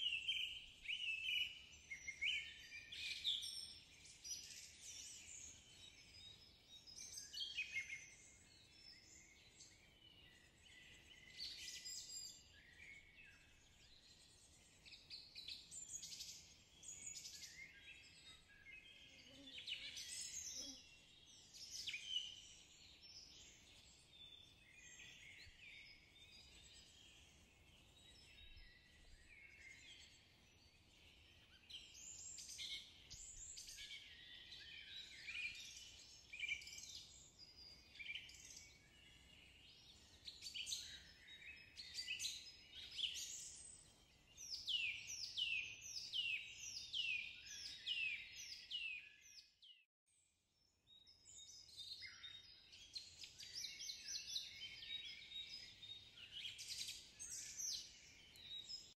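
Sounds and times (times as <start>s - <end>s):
songbirds singing and chirping: 0.0s - 58.9s.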